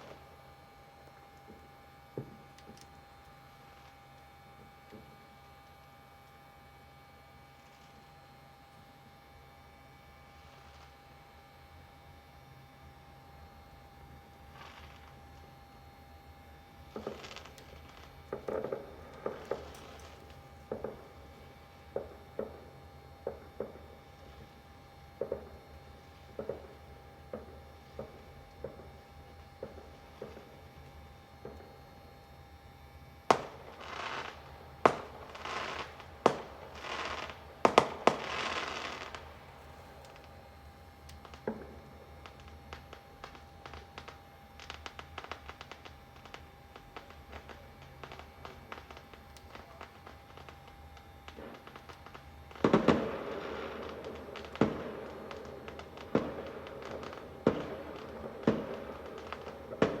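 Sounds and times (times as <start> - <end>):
firework bangs: 0.0 - 3.8, 14.5 - 15.6, 16.9 - 60.0
firework crackle: 0.0 - 60.0.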